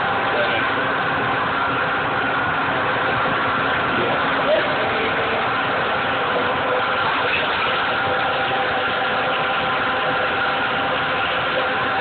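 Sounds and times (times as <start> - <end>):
immersion blender running: 0.0 - 12.0.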